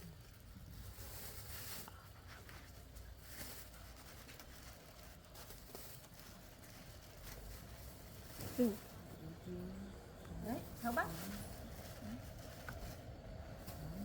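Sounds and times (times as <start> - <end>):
corn husks rustling: 0.0 - 9.2, 10.4 - 14.0.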